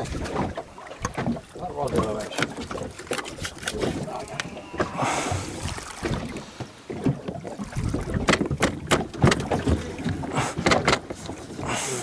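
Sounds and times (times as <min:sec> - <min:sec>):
water slapping against a hull: 0:00.0 - 0:12.0.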